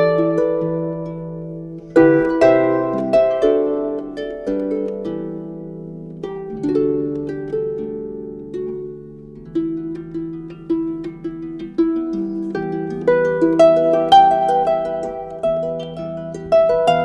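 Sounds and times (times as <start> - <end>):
solo harp music: 0.0 - 17.0.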